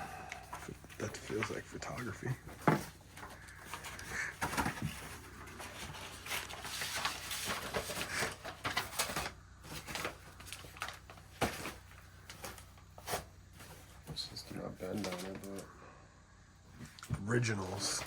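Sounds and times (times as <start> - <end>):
paper sheets rustling: 0.4 - 15.6, 17.6 - 18.0.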